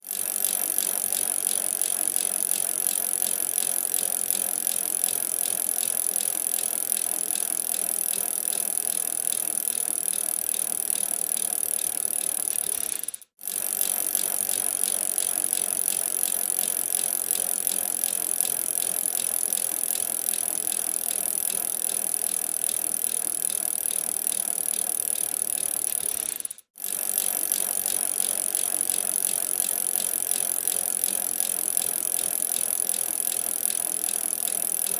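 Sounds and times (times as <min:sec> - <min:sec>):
bicycle rattling and clicking: 0:00.0 - 0:34.9.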